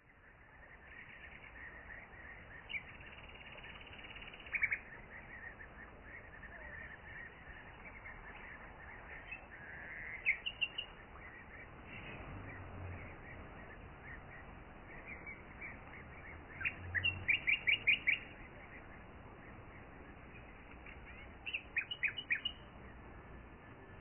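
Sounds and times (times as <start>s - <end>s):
birds chirping: 0.0s - 24.0s
sharp bird calls: 0.0s - 24.0s.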